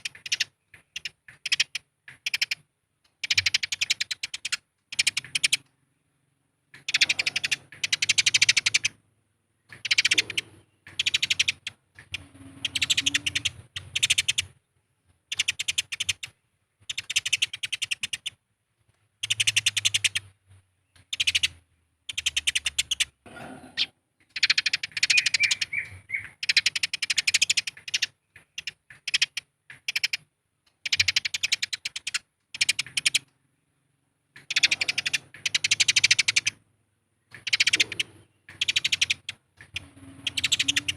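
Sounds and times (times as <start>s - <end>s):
sparrows chattering: 0.0s - 18.4s, 19.2s - 40.9s.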